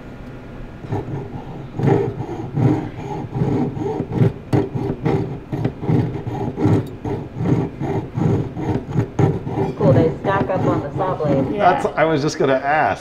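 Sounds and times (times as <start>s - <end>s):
saw cutting through wire: 0.8s - 11.8s.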